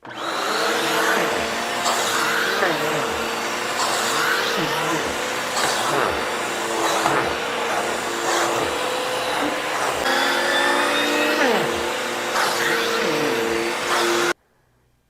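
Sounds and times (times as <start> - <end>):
upright vacuum motor hum: 0.0 - 14.4.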